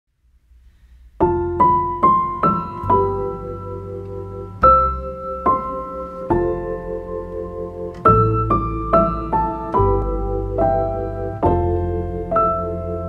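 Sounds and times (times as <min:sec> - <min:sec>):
held low bass tone: 0:00.3 - 0:13.0
slow piano melody: 0:00.7 - 0:13.0.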